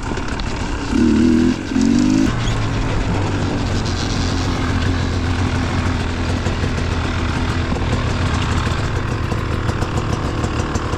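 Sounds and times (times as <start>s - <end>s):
dirt bike engine idling: 0.0s - 10.9s.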